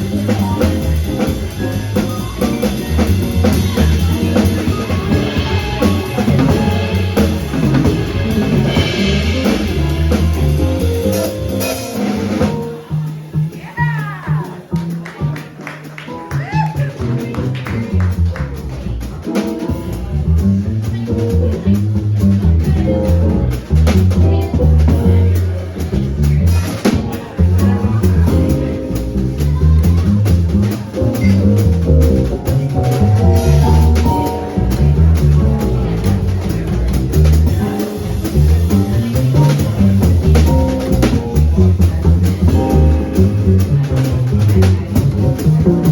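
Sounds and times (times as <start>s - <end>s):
busy drumming: 0.0s - 45.9s
jazz quartet playing: 0.0s - 45.9s
walking bass line: 0.0s - 45.9s.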